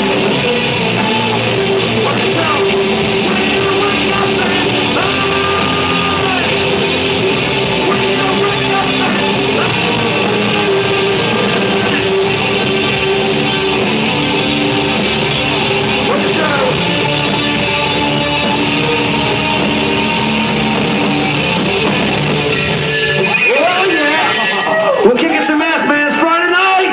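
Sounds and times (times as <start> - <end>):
hard rock music with electric guitar: 0.0 - 26.9.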